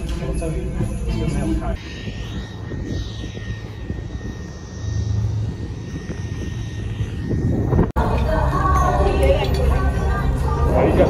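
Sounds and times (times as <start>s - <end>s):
engine drone: 0.0s - 11.0s
faint high whine: 0.0s - 11.0s
wind buffeting microphone: 1.5s - 11.0s.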